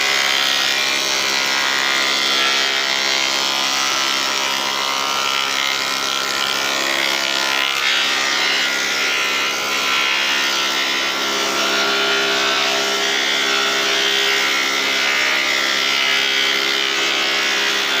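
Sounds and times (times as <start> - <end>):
woodworking machine running: 0.0 - 18.0.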